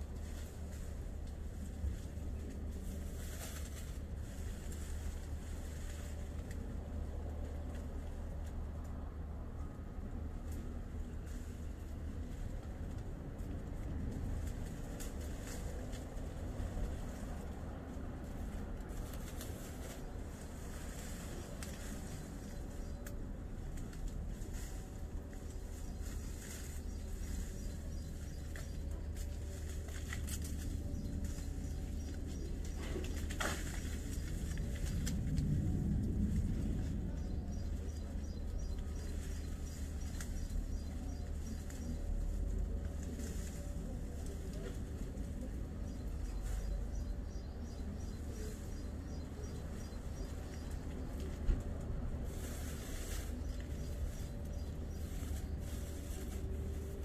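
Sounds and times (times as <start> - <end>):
leaves and twigs rustling: 0.0 - 57.0
low outdoor rumble: 0.0 - 57.0.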